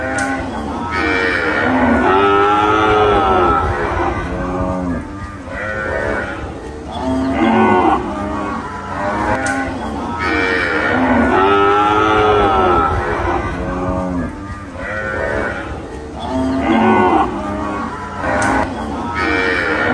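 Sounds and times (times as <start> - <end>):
cattle mooing: 0.0 - 19.9.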